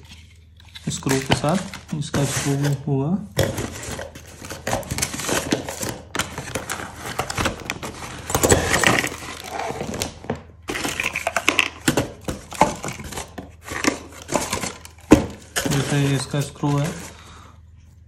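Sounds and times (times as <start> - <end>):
cardboard box rustling and scraping: 0.0 - 2.8, 3.4 - 11.2, 12.2 - 17.2
clicks and crinkles: 0.0 - 2.8, 3.4 - 17.3.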